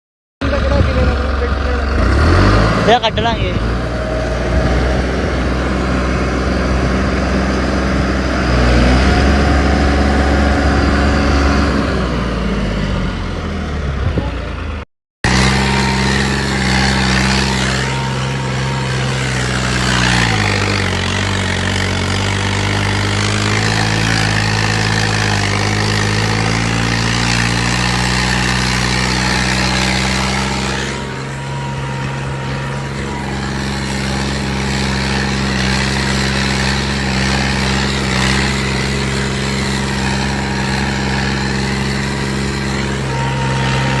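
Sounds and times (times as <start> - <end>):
tractor diesel engine running: 0.4 - 44.0.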